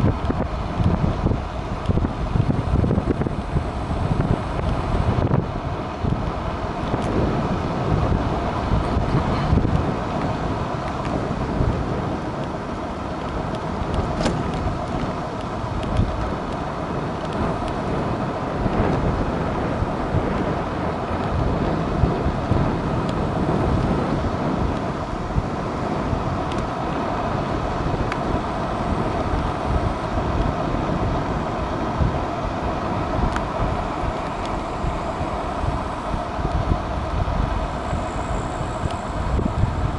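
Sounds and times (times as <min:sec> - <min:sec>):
tyre and road rumble: 0:00.0 - 0:39.9
wind rushing over microphone: 0:00.0 - 0:39.9.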